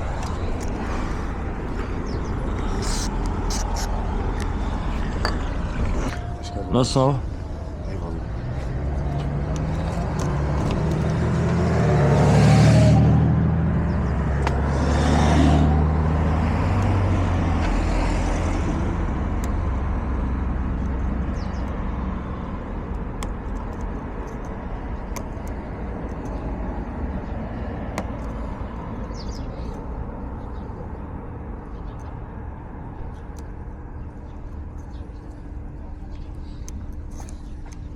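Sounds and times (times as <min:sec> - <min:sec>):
engine low hum: 0:00.0 - 0:37.9
vehicles passing: 0:00.0 - 0:37.9.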